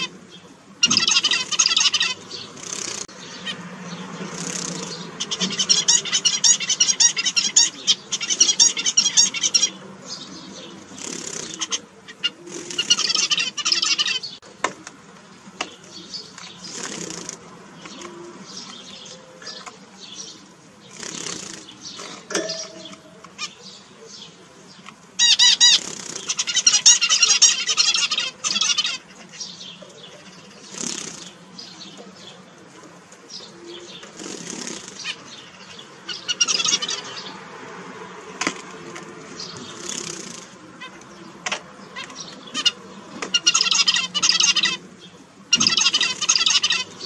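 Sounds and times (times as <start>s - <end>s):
finches singing and calling: 0.0s - 14.5s, 15.4s - 32.6s, 33.2s - 37.4s, 38.8s - 47.0s.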